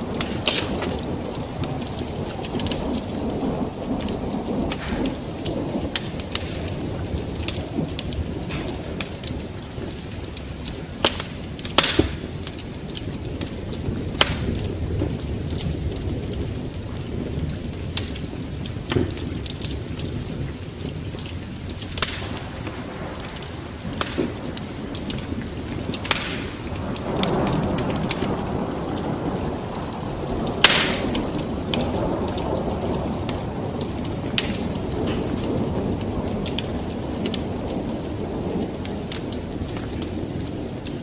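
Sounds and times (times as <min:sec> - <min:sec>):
low rush of flames: 0:00.0 - 0:41.0
wood fire popping and snapping: 0:00.0 - 0:41.0.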